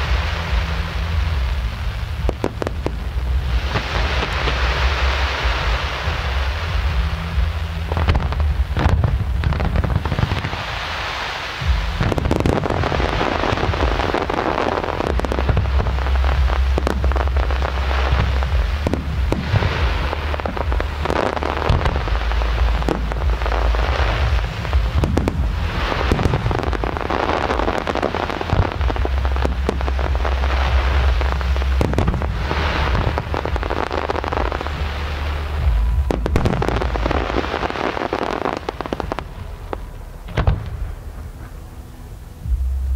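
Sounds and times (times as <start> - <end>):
deep rumble: 0.0 - 42.9
fireworks crackling: 0.0 - 42.9.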